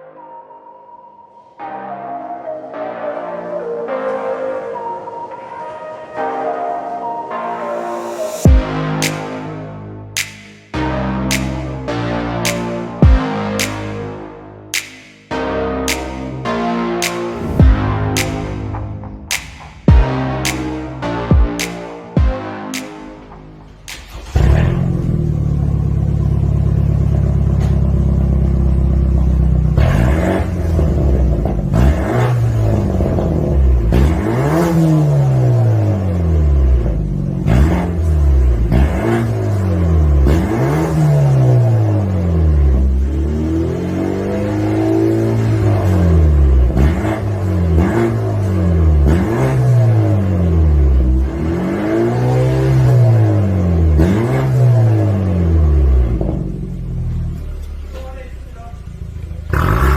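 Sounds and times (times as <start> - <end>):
car engine idling and revving: 8.3 - 59.9.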